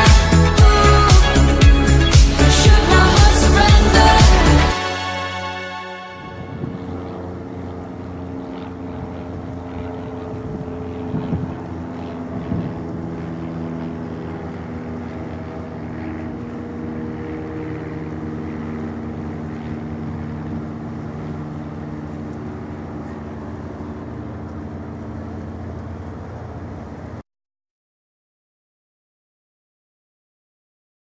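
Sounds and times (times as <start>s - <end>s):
ship engines droning: 0.0s - 27.2s.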